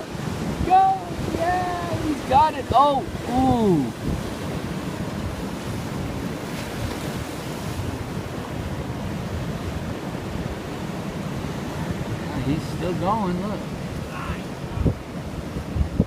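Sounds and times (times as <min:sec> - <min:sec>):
ocean surf breaking: 0:00.0 - 0:16.0
wind rumbling on microphone: 0:00.0 - 0:16.0.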